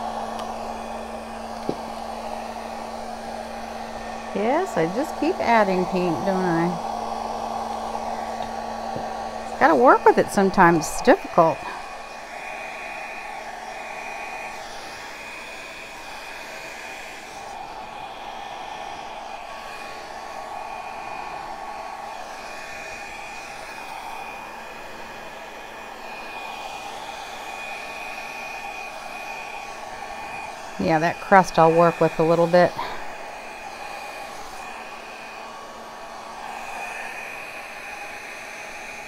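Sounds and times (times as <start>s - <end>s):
hair dryer blowing: 0.0s - 39.0s.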